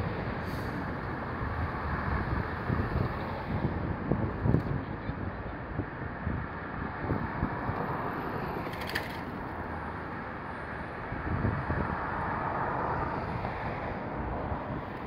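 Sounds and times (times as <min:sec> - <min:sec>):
cars driving by: 0:00.0 - 0:15.0.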